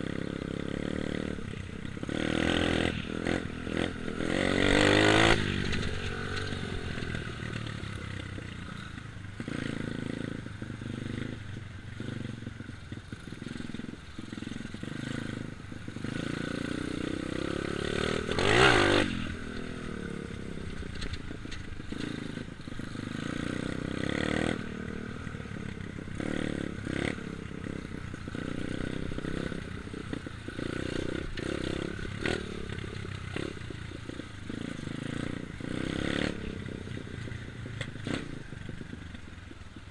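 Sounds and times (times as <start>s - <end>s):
dirt bike engine passing by: 0.0s - 39.9s.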